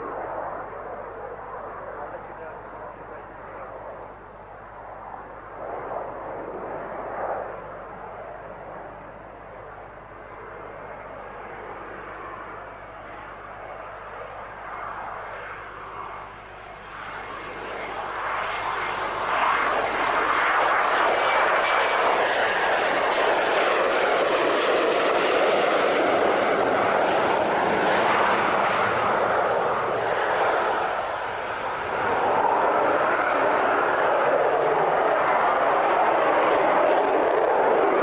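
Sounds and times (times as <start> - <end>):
high jet whine: 0.0 - 38.0
jet engine roar: 0.0 - 38.0.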